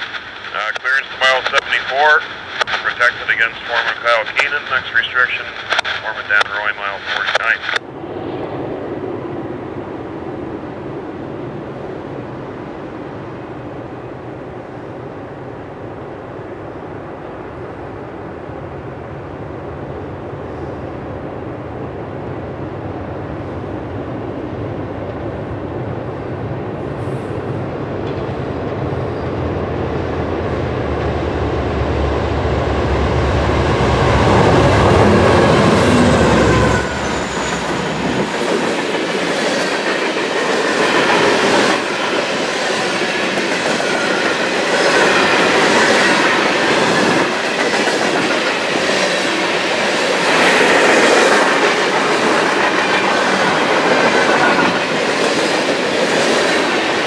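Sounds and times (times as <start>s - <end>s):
diesel locomotive engines rumbling: 0.0s - 57.0s.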